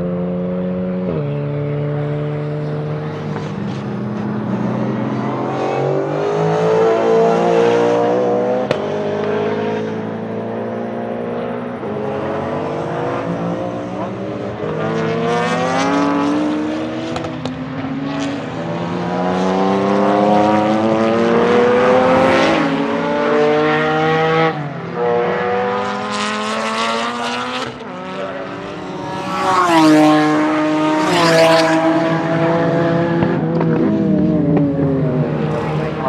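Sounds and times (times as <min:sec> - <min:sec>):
race car engine accelerating: 0:00.1 - 0:36.0.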